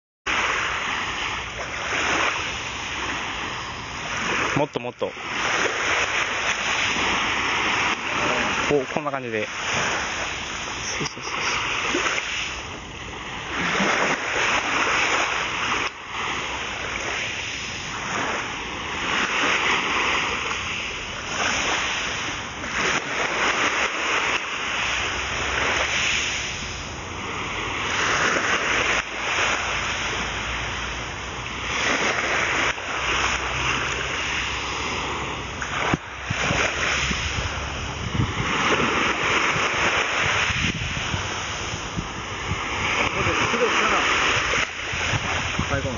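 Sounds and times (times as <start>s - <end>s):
small waves breaking on beach: 0.3s - 45.9s.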